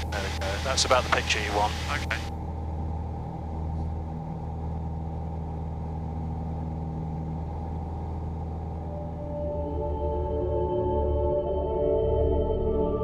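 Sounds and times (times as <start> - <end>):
aircraft engine and propeller drone: 0.0 - 12.6
soft ambient music: 0.0 - 13.0.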